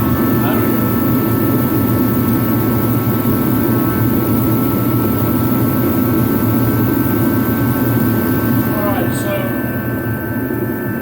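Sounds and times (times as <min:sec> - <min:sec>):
faint thin whine: 0:00.0 - 0:11.0
forced-air heater fan running: 0:00.0 - 0:11.0.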